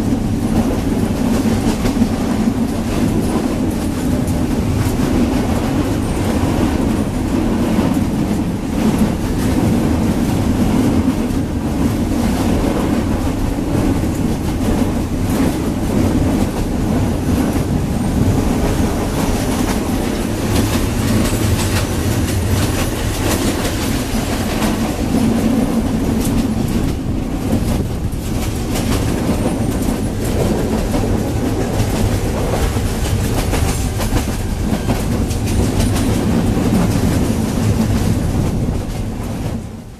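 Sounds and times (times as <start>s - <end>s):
train coach rumbling on track: 0.0s - 39.9s.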